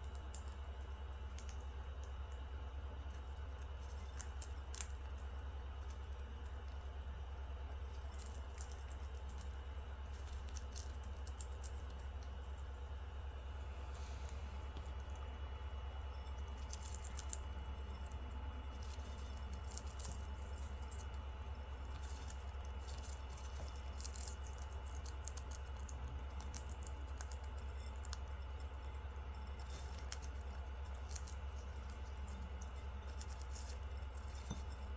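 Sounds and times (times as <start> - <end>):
bird crunching popcorn: 0.0 - 34.9
steady low hum: 0.0 - 34.9.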